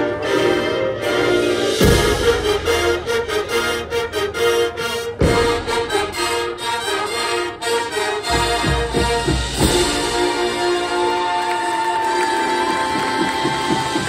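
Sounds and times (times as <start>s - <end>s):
marching band playing: 0.0s - 14.0s.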